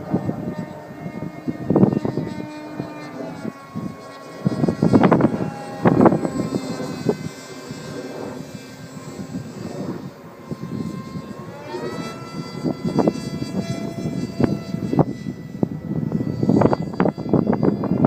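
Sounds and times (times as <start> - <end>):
model plane electric motor whining: 0.0 - 18.0
wind buffeting microphone: 0.0 - 18.0.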